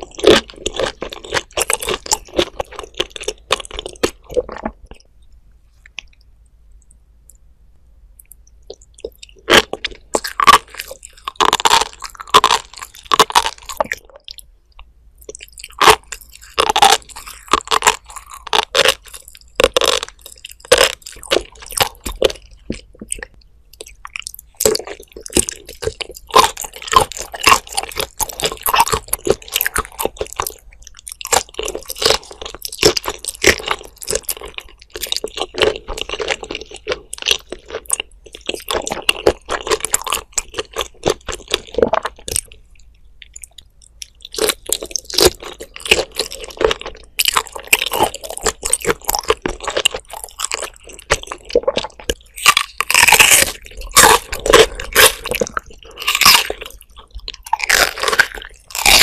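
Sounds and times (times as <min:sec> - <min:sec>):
wet chewing of shrimp: 0:00.0 - 0:06.3, 0:08.2 - 0:59.0.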